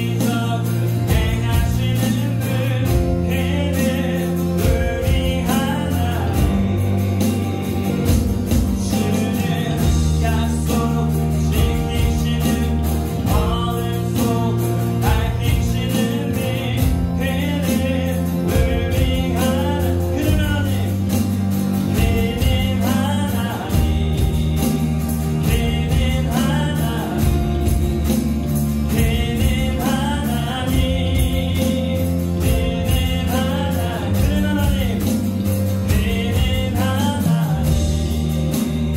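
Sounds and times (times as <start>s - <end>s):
acoustic guitar: 0.0s - 38.9s
bass guitar: 0.0s - 38.9s
electronic drums beat: 0.0s - 38.9s
keyboard: 0.0s - 38.9s
person singing: 0.0s - 38.9s.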